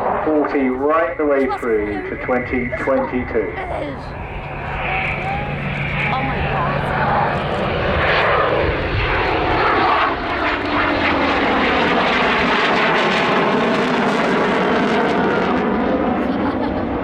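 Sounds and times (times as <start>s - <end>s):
aircraft flying past: 0.0s - 17.0s.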